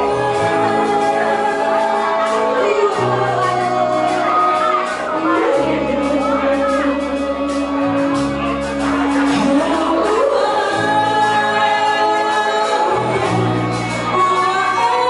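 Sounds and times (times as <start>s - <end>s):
bass guitar: 0.0s - 15.0s
drums: 0.0s - 15.0s
electric guitar: 0.0s - 15.0s
women singing: 0.0s - 15.0s.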